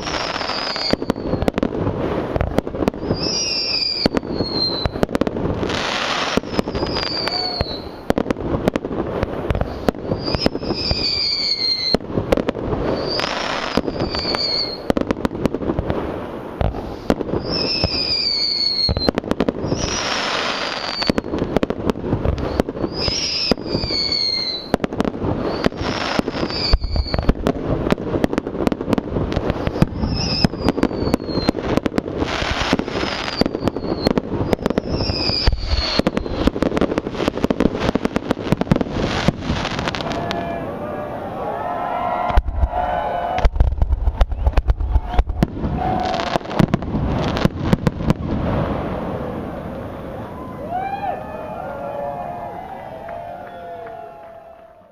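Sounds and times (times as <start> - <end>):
fireworks falling whistles: 0.0 - 15.1, 15.9 - 40.7, 42.1 - 49.3
fireworks crackling and banging: 0.0 - 54.8.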